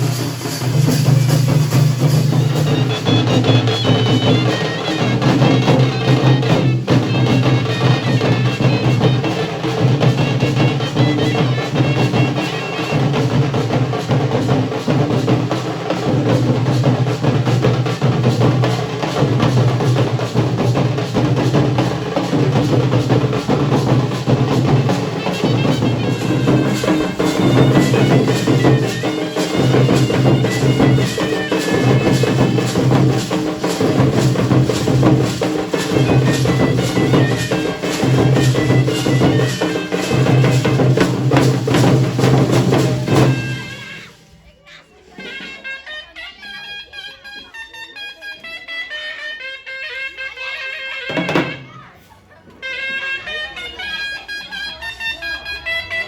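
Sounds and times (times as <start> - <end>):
wind instrument melody: 0.0 - 18.4, 19.1 - 51.8, 52.5 - 56.0
drums in fast rhythm: 0.0 - 45.6, 50.1 - 56.0.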